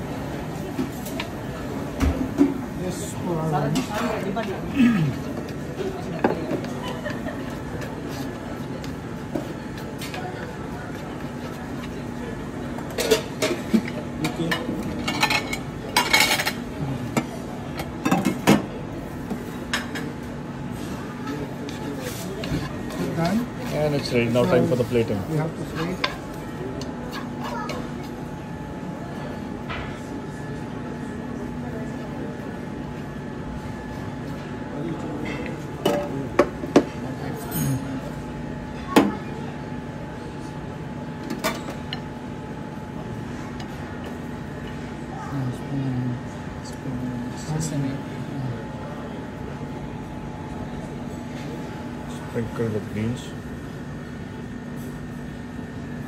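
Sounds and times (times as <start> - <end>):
kitchen equipment humming: 0.0 - 56.0.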